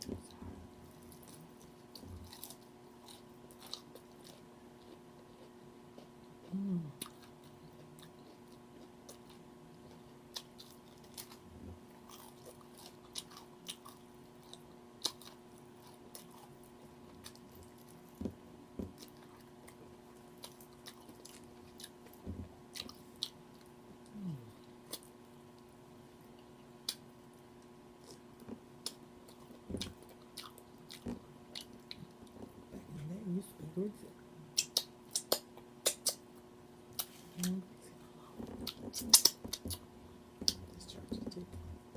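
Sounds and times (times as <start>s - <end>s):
crunching and chewing fried chicken: 0.0s - 32.8s, 34.5s - 37.6s, 38.2s - 41.2s
faint electrical hum: 0.0s - 41.9s.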